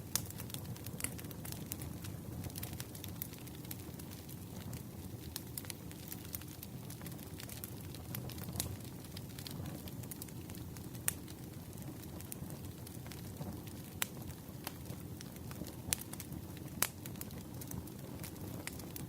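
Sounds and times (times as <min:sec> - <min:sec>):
campfire crackling: 0:00.0 - 0:19.0
low rumble of flames: 0:00.0 - 0:19.0.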